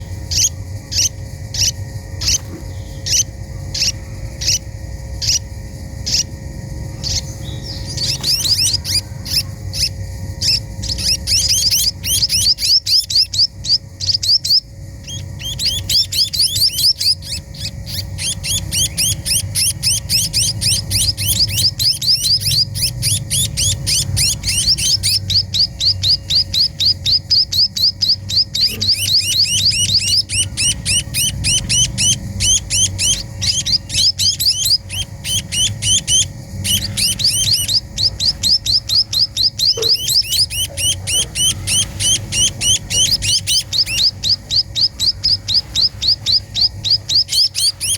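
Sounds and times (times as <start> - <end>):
small birds chirping: 0.0 - 47.9
steady low hum: 0.0 - 47.9.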